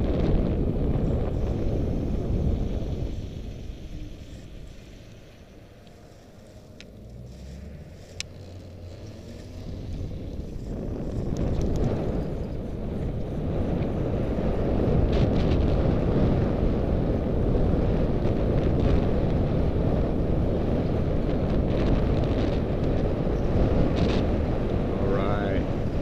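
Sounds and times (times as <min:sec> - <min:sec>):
road noise: 0:00.0 - 0:26.0
wind buffeting microphone: 0:00.0 - 0:26.0.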